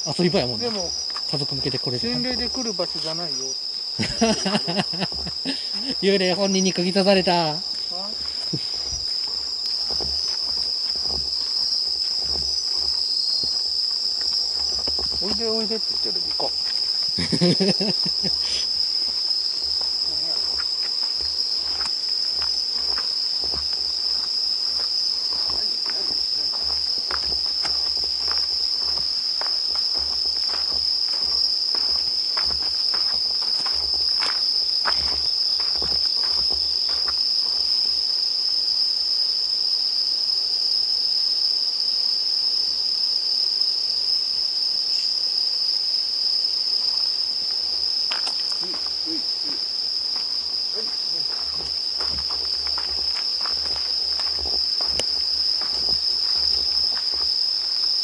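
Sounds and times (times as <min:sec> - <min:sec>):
footsteps on a path: 0:00.0 - 0:38.0, 0:46.8 - 0:58.0
crickets chirping: 0:00.0 - 0:58.0.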